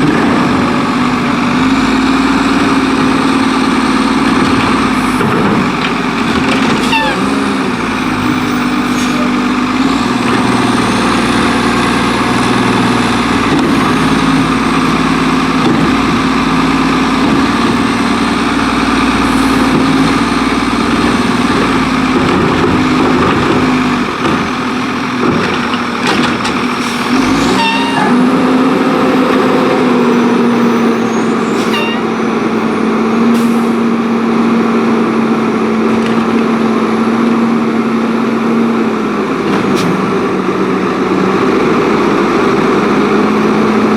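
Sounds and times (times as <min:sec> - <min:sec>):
garbage truck diesel engine: 0:00.0 - 0:43.9.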